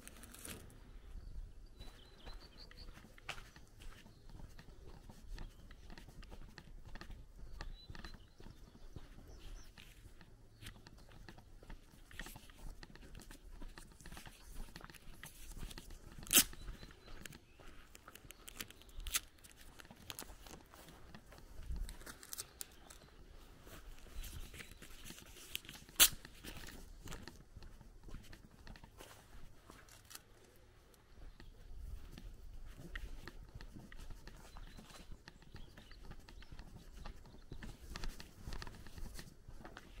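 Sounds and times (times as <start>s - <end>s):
footsteps crunching on dirt road: 0.0s - 40.0s.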